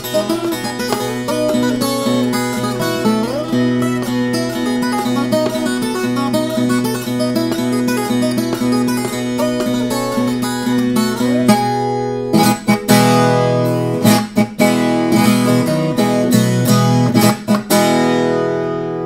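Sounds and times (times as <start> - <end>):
steel-string guitar playing: 0.0 - 19.0.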